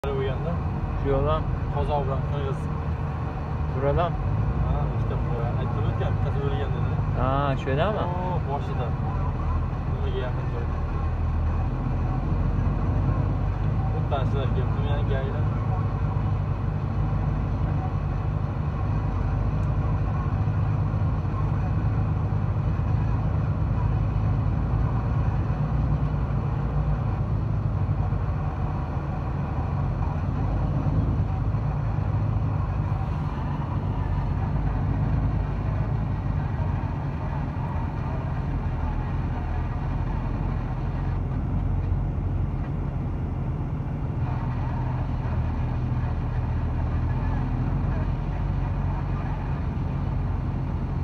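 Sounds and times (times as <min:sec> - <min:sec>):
road noise: 0:00.0 - 0:51.0
truck diesel engine droning: 0:00.0 - 0:51.0.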